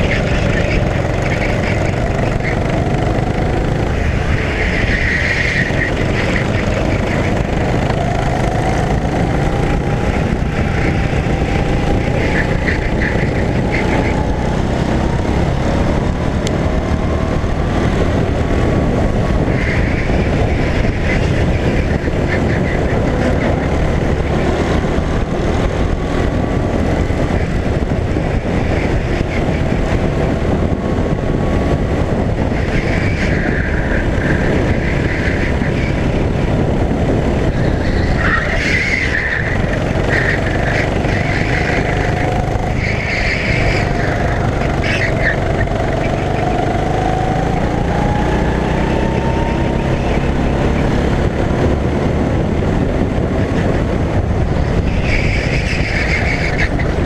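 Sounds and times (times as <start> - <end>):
go-kart engine accelerating: 0.0 - 57.0.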